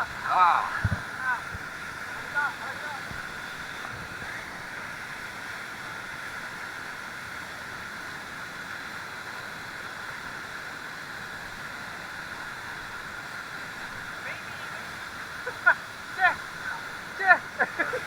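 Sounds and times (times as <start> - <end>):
waterfall rushing: 0.0 - 7.3, 8.9 - 18.0.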